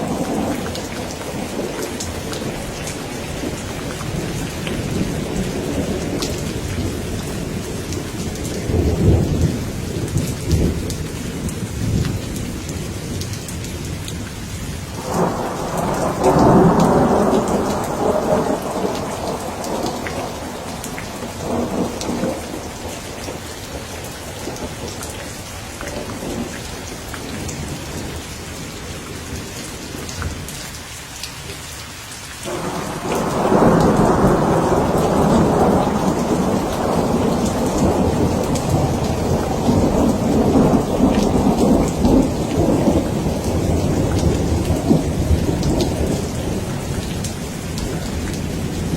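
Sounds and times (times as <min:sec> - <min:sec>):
rolling thunder: 0:00.0 - 0:13.3, 0:14.9 - 0:25.3, 0:32.5 - 0:48.9
raindrops pattering: 0:00.0 - 0:48.9
steady rain: 0:00.0 - 0:48.9.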